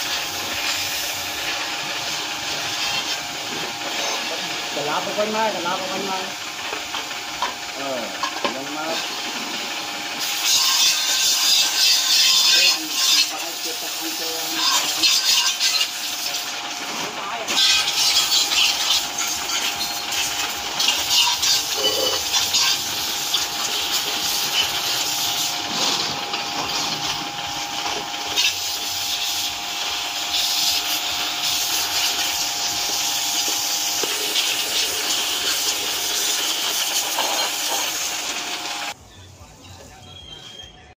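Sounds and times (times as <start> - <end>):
pressure washer spray hissing on metal: 0.0 - 39.0
pump hum: 0.0 - 39.0.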